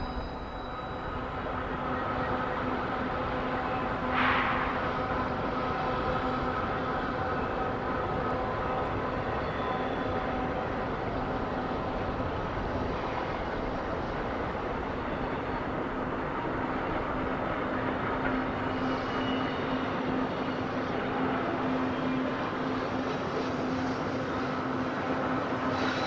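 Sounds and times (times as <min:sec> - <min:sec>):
diesel locomotives rumbling: 0:00.0 - 0:26.0.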